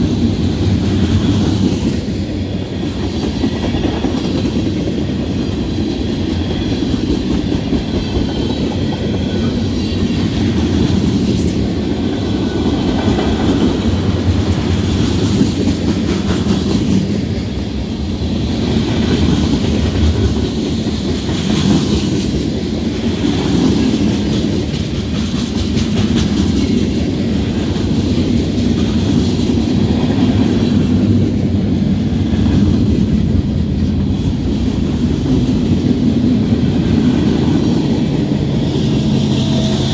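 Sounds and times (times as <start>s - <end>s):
freight train wheels on rails: 0.0s - 39.9s.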